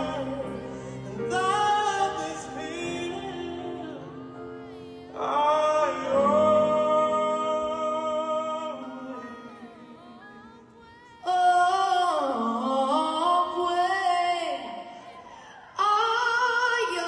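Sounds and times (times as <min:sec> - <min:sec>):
pop vocals with harmonies: 0:00.0 - 0:17.0.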